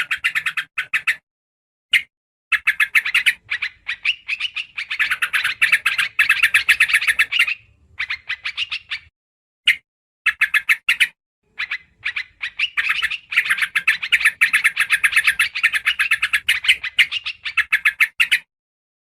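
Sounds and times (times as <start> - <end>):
bird chattering: 0.0 - 1.2, 1.9 - 9.1, 9.7 - 18.5.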